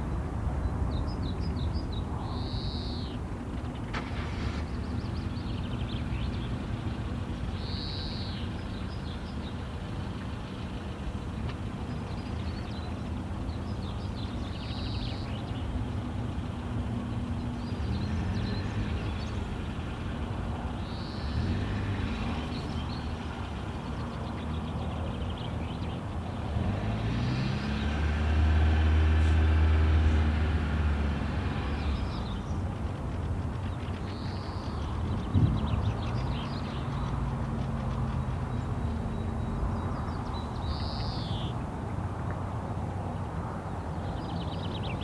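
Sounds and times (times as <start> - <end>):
motor vehicles rumbling: 0.0 - 45.0.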